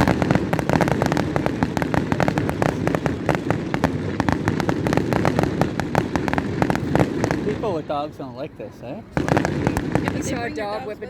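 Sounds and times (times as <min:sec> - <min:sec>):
fireworks popping and crackling: 0:00.0 - 0:08.4, 0:09.1 - 0:11.0.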